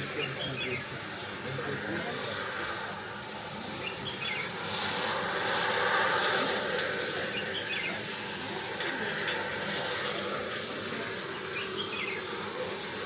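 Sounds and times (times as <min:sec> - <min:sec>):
aircraft engine noise: 0:00.0 - 0:13.0.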